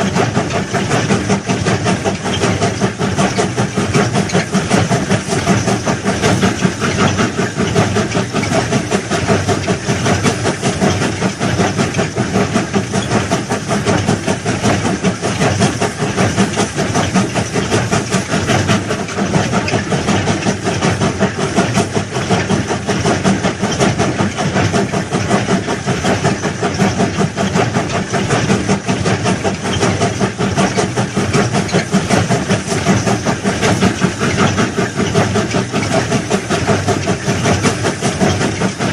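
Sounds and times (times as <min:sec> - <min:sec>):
track-laying machinery running: 0:00.0 - 0:38.9.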